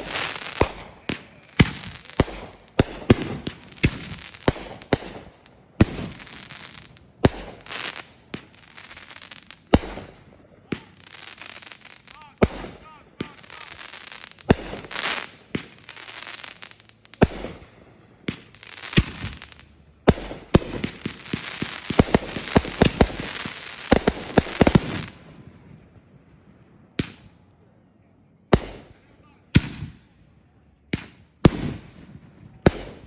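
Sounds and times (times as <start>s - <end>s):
fireworks banging and crackling: 0.0s - 27.5s, 28.5s - 30.1s, 30.9s - 33.0s.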